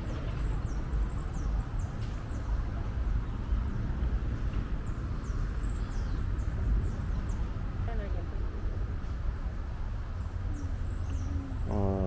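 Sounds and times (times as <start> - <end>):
small birds chirping: 0.0 - 8.3, 10.5 - 12.0.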